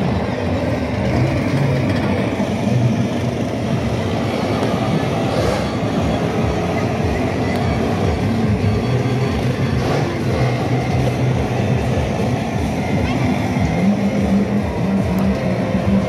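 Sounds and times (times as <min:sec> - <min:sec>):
ride cars rolling and rattling: 0:00.0 - 0:16.0.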